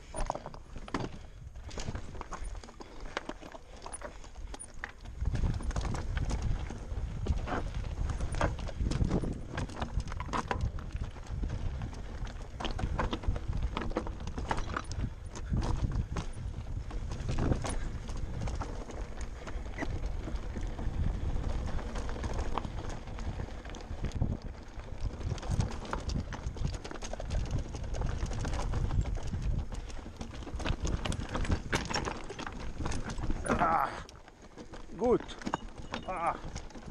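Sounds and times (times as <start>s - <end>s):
bike rattling: 0.0s - 36.9s
tyres crunching over stones: 0.0s - 36.9s.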